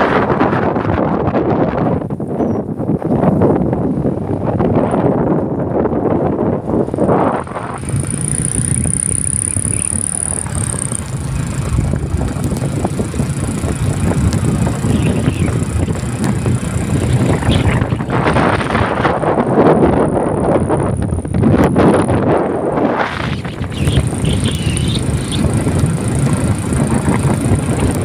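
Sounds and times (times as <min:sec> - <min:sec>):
road noise: 0:00.0 - 0:28.0
wind buffeting microphone: 0:00.0 - 0:28.0.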